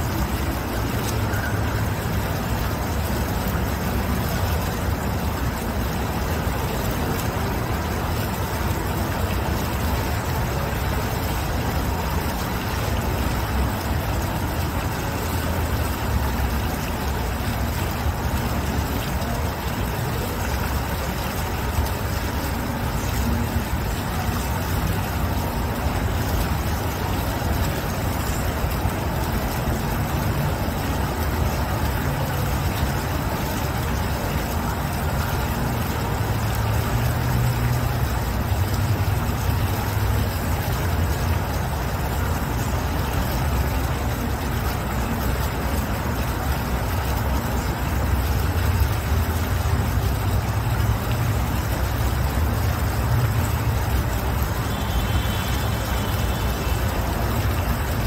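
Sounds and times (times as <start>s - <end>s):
fountain splashing into pool: 0.0s - 58.0s.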